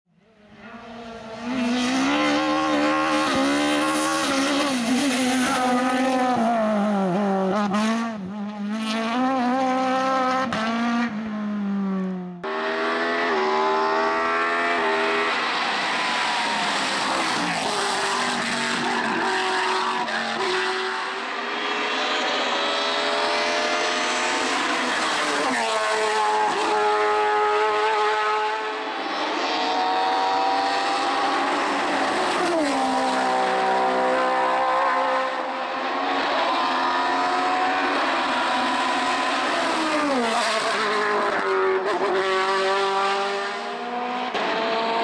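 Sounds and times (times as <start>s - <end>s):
race car engines at high revs: 0.2s - 45.0s
car accelerating hard: 0.6s - 45.0s.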